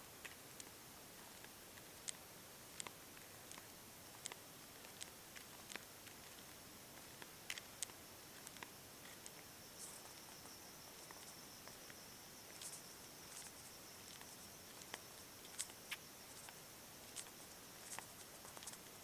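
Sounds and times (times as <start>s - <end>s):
faint steady hiss: 0.0s - 19.0s
soft clicks and ticks: 0.2s - 19.0s.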